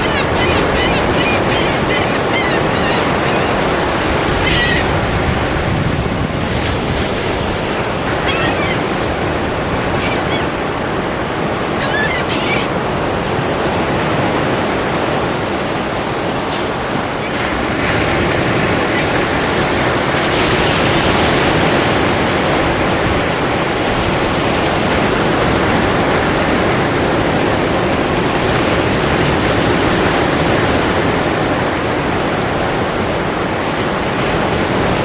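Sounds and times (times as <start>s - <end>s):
ocean surf washing ashore: 0.0s - 35.0s.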